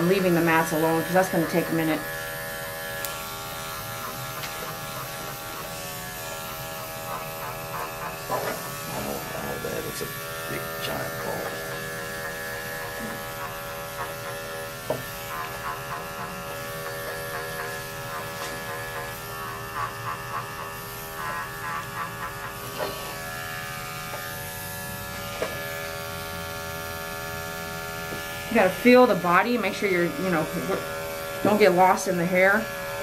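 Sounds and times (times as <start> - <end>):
electric clippers buzzing: 0.0 - 33.0.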